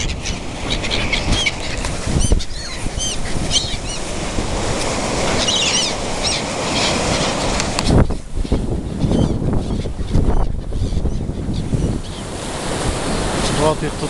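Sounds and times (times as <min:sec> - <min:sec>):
gulls calling: 0:00.0 - 0:14.0
wind buffeting microphone: 0:00.0 - 0:14.0.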